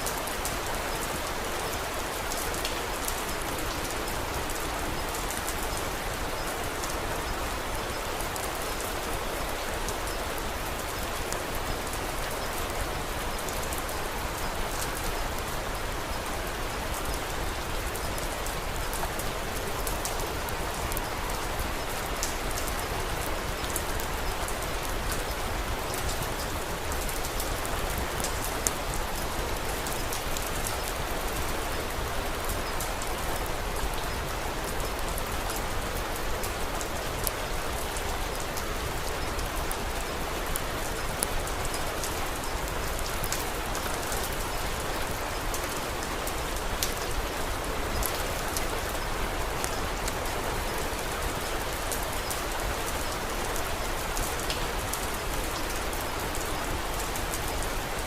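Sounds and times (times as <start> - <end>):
faint sharp rain ticks: 0.0 - 58.0
rain hiss: 0.0 - 58.0.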